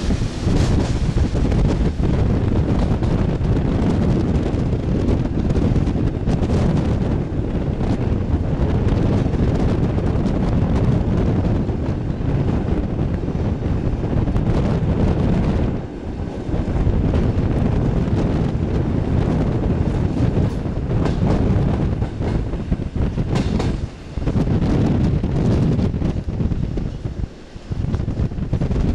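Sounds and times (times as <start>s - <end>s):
train wheels rumbling on rails: 0.0s - 28.9s
wind: 0.0s - 28.9s.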